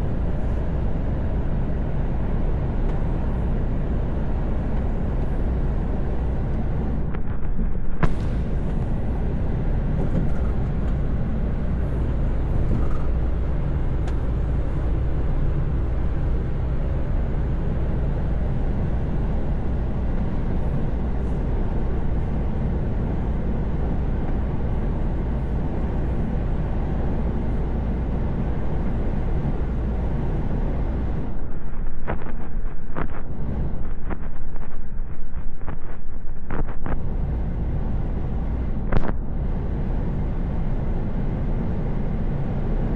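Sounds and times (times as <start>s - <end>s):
diesel engine drone: 0.0s - 42.9s
road noise: 0.0s - 42.9s.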